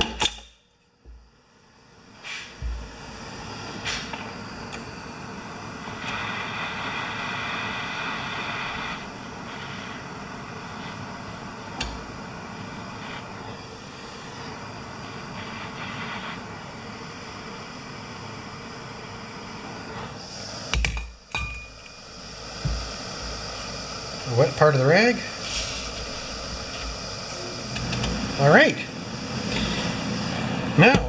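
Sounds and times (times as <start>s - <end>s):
blowtorch flame roaring: 1.3s - 31.0s.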